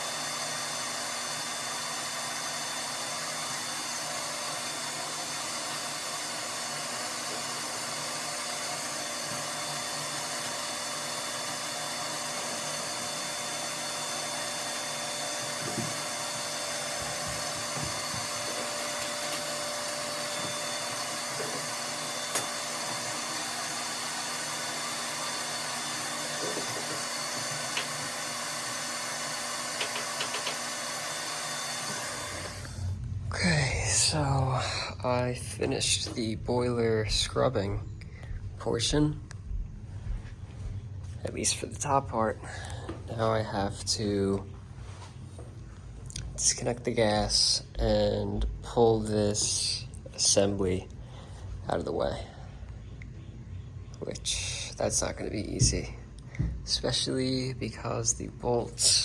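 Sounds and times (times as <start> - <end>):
vacuum motor running: 0.0 - 46.6, 54.4 - 59.0.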